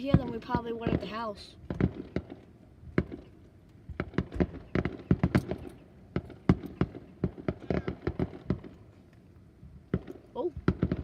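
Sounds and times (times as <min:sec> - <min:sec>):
fireworks bangs: 0:00.0 - 0:09.0, 0:09.8 - 0:11.0.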